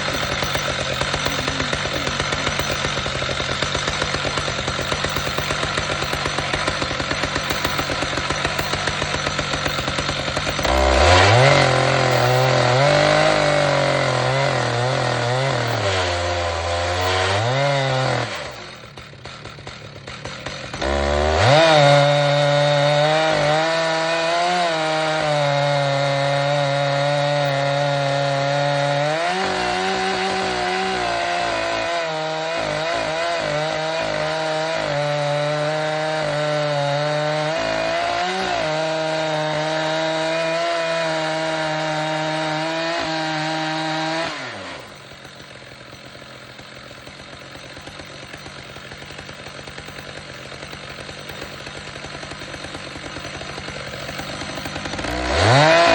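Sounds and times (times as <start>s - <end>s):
chainsaw cutting wood: 0.0s - 55.9s
chainsaw idling: 0.0s - 55.9s.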